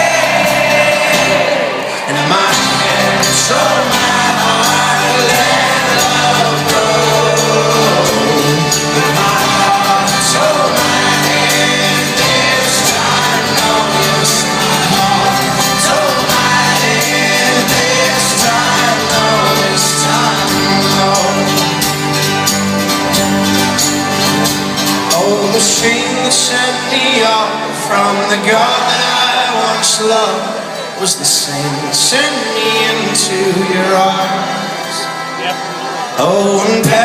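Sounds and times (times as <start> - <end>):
person singing: 0.0 - 22.8, 24.2 - 37.0
live folk-rock band playing: 0.0 - 37.0.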